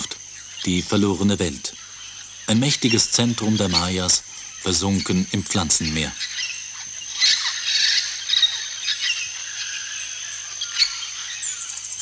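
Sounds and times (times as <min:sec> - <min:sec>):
birds chirping: 0:00.0 - 0:12.0
high insect buzz: 0:00.0 - 0:12.0.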